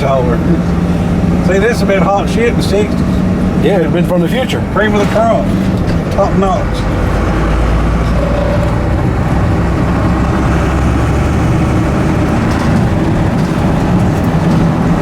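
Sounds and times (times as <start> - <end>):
diesel truck engine rumble: 0.0 - 15.0.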